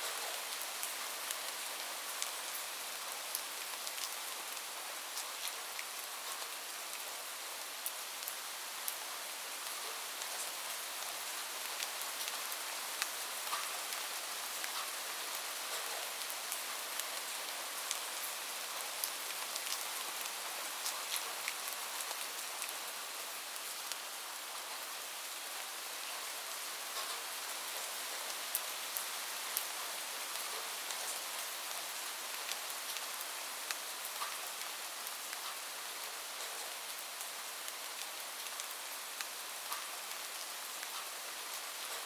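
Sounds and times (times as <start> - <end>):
light steady rain: 0.0 - 42.0.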